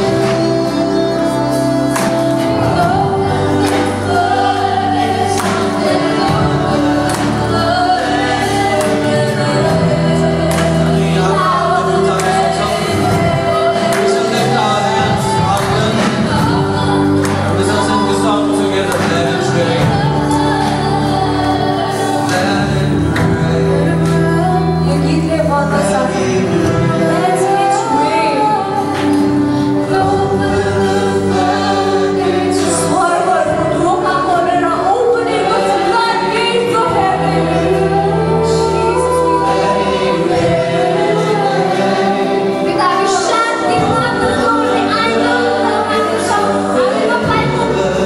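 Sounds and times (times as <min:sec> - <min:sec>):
acoustic guitar: 0:00.0 - 0:48.0
drum kit: 0:00.0 - 0:48.0
voices singing: 0:00.0 - 0:48.0
worship band playing: 0:00.0 - 0:48.0.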